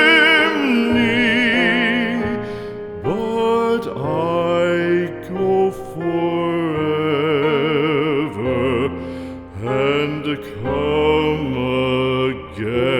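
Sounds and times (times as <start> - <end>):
person singing sad song with vibrato: 0.0 - 12.9.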